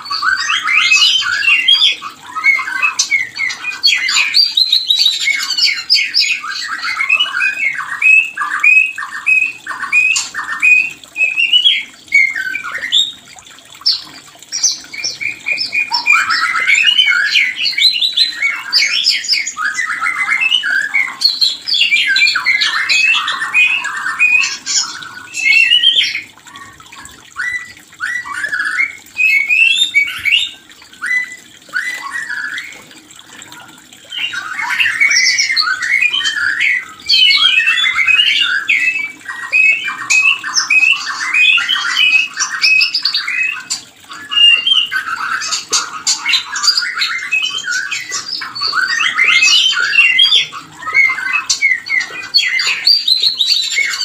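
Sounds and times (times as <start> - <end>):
bird singing repeated notes: 0.0 - 54.0.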